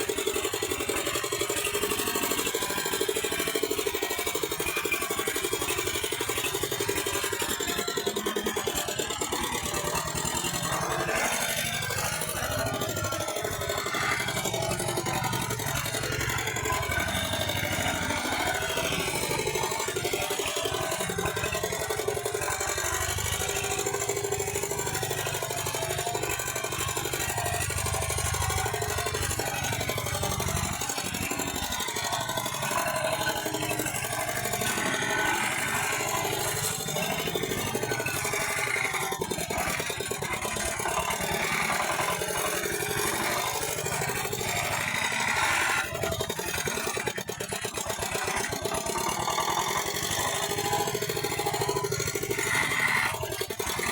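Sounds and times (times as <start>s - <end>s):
walking tractor engine running: 0.0s - 53.9s.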